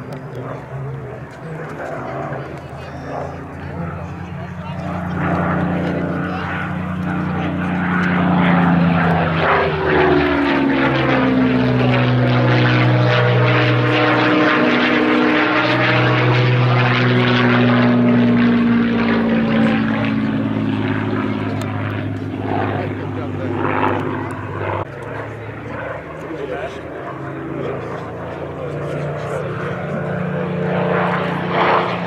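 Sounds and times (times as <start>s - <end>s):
propeller aircraft flying overhead: 0.0s - 32.0s.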